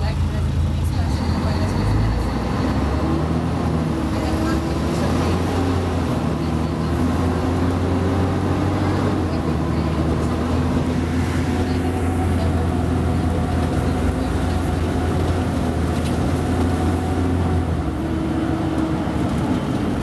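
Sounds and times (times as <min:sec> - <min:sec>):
bus diesel engine humming: 0:00.0 - 0:20.0.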